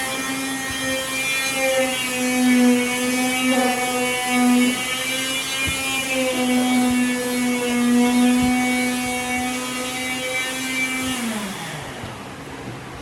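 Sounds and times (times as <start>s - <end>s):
electric power tool motor humming: 0.0s - 13.0s.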